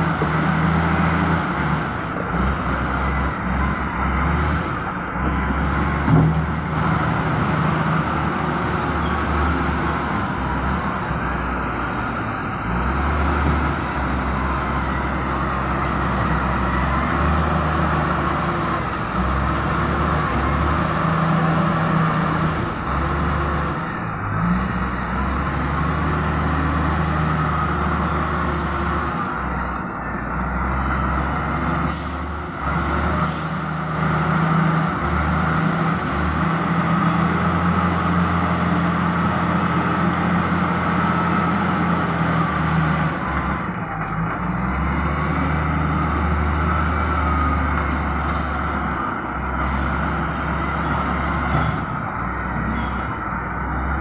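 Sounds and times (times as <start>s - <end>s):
heavy diesel engine under load: 0.0s - 54.0s.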